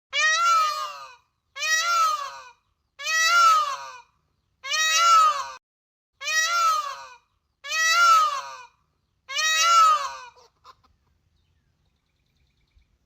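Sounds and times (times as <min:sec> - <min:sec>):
bird calling: 0:00.2 - 0:05.6, 0:06.2 - 0:12.9.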